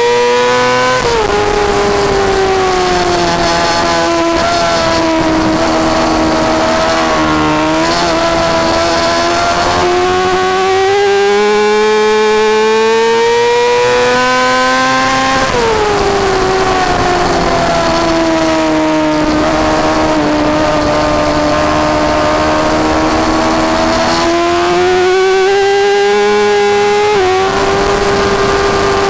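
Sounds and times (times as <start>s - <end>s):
sport bike engine at racing speed: 0.0s - 29.0s.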